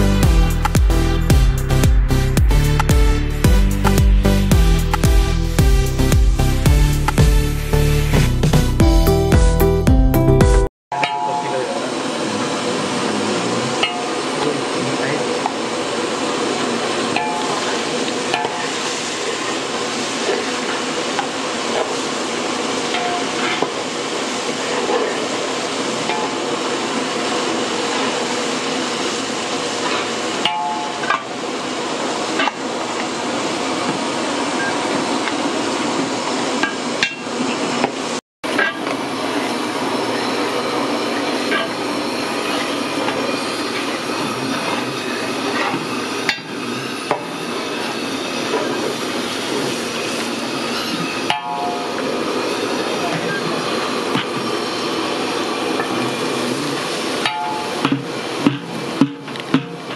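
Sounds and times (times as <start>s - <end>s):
pots boiling hard: 11.0s - 59.9s.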